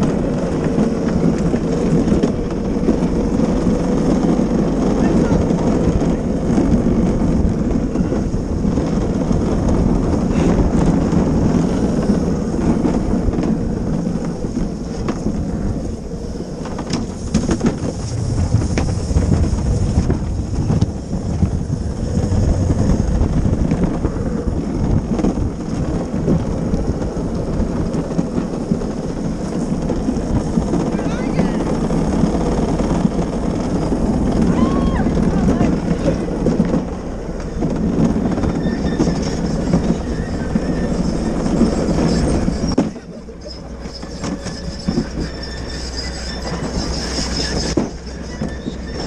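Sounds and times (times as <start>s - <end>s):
cart wheels rumbling on track: 0.0s - 49.0s.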